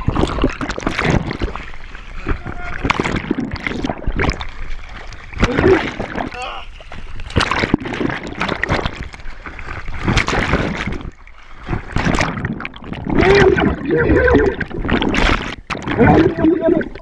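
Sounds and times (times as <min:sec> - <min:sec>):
water gurgling: 0:00.0 - 0:17.0
water splashing and sloshing: 0:00.0 - 0:17.0.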